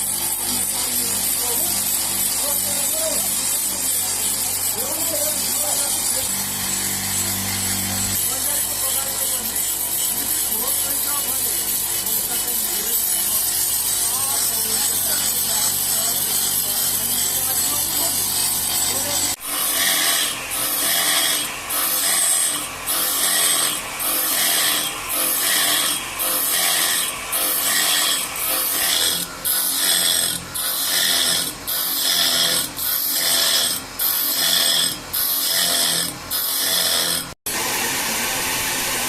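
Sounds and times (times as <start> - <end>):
saw cutting wood: 0.0 - 39.0.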